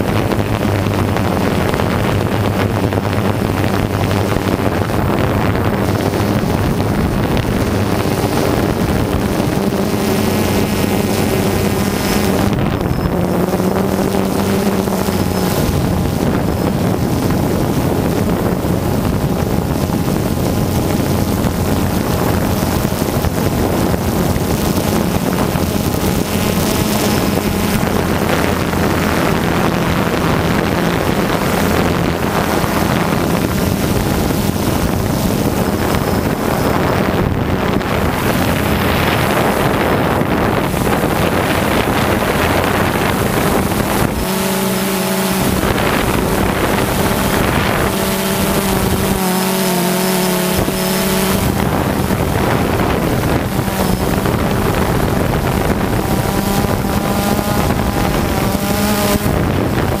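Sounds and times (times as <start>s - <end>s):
drone propellers humming: 0.0s - 60.0s
wind rushing over microphone: 0.0s - 60.0s.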